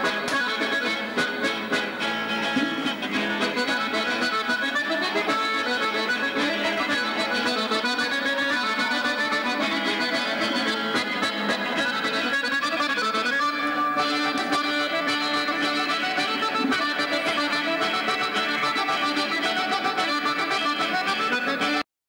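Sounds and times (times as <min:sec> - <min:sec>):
accordion dance tune: 0:00.0 - 0:21.8.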